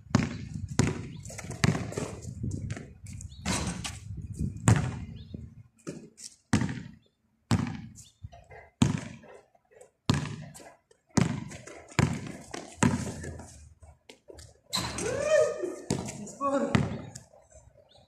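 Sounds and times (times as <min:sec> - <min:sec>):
basketball bouncing on concrete: 0:00.0 - 0:04.0, 0:04.6 - 0:05.2, 0:05.8 - 0:08.0, 0:08.7 - 0:09.4, 0:10.0 - 0:17.2.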